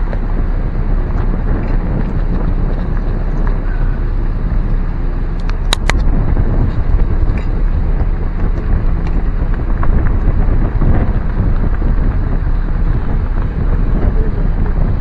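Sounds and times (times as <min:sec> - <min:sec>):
car driving slowly: 0:00.0 - 0:15.0
wind buffeting microphone: 0:00.0 - 0:15.0.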